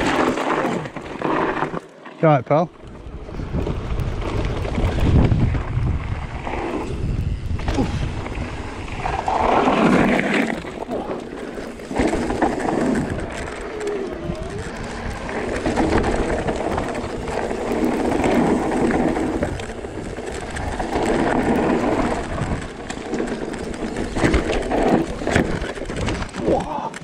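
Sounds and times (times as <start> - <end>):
bike rattling: 0.0 - 27.0
tyres rolling over loose stones: 0.0 - 27.0.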